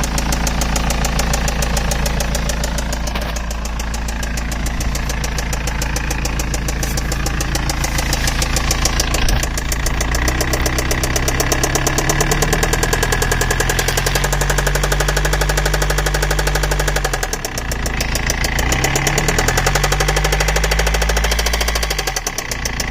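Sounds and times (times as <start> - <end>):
diesel engine knocking: 0.0 - 22.9.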